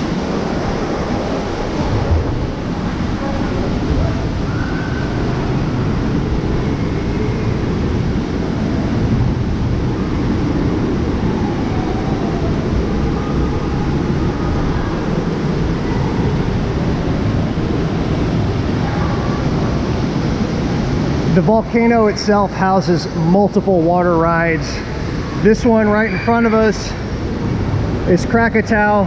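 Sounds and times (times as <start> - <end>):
rushing water roar: 0.0 - 29.0.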